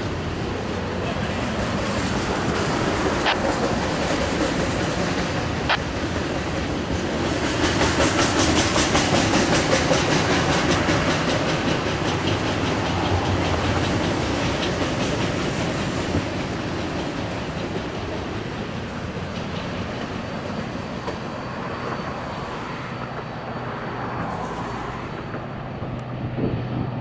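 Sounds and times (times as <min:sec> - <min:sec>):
freight train wheels rumbling on track: 0:00.0 - 0:27.0.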